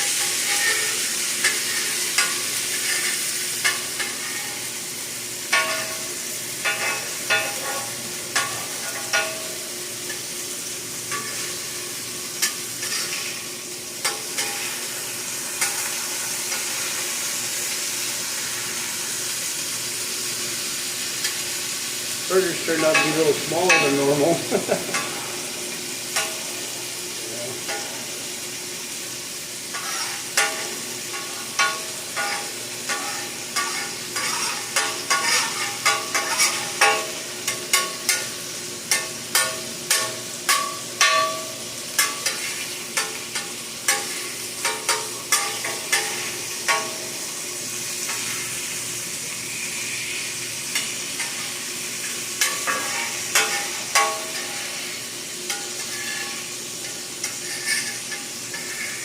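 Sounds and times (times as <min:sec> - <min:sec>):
burgers sizzling on griddle: 0:00.0 - 0:59.0.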